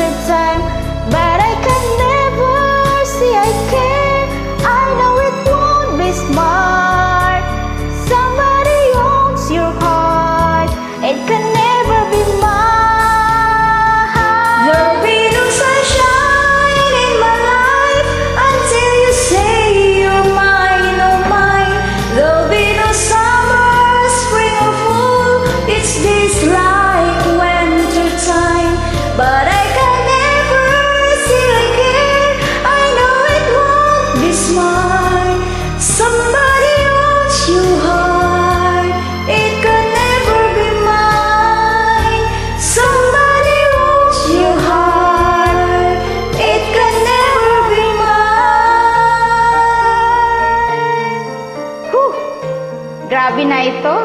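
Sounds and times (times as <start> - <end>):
woman singing: 0.0 - 52.4
karaoke backing track: 0.0 - 54.0.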